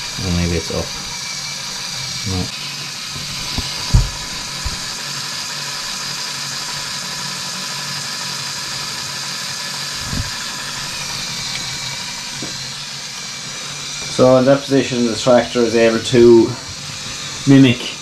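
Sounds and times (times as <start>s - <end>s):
small electric motor whirring: 0.0s - 18.0s.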